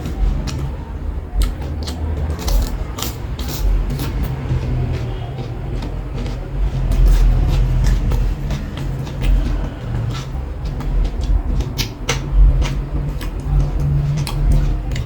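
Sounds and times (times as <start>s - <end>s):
chewing with wet crunches: 0.0s - 15.0s
steady low hum: 0.0s - 15.0s.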